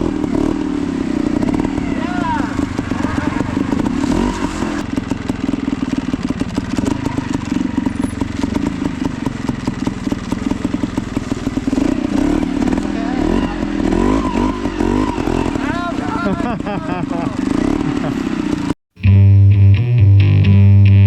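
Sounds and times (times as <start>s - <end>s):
two-stroke motorcycle engine popping: 0.0s - 18.8s.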